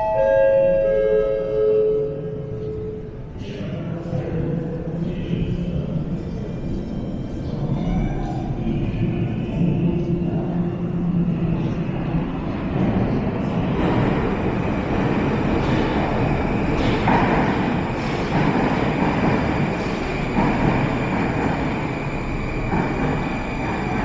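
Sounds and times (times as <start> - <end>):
metro train rumble: 0.0 - 24.0.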